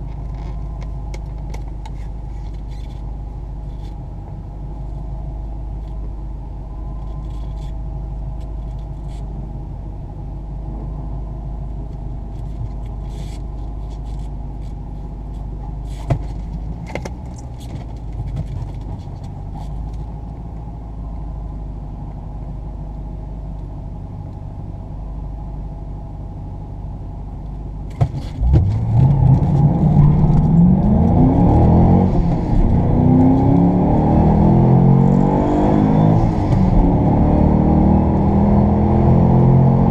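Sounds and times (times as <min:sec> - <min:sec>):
car engine idling and accelerating: 0:00.0 - 0:39.9.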